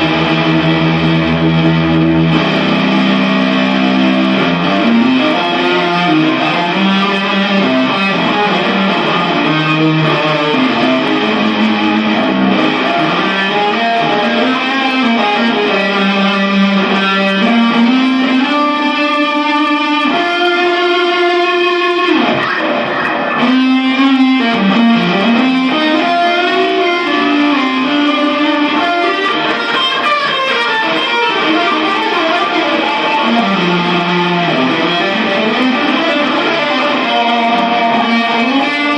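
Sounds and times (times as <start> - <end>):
electric guitar melody: 0.0 - 38.9.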